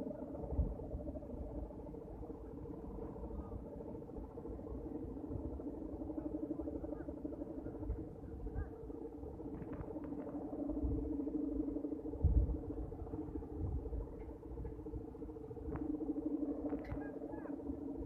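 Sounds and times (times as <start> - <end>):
kite hummers droning: 0.0 - 18.0
wind rumbling on microphone: 0.0 - 18.0.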